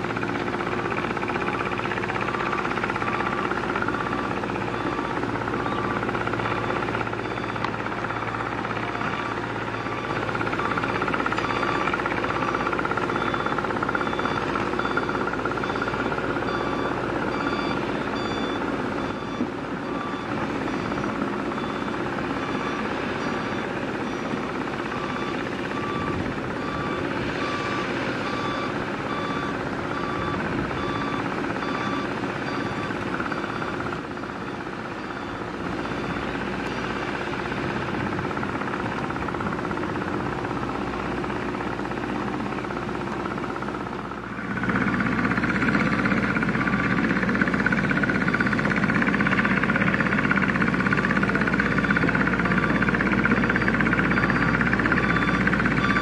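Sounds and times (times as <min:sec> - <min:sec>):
excavator diesel engine digging: 0:00.0 - 0:56.0.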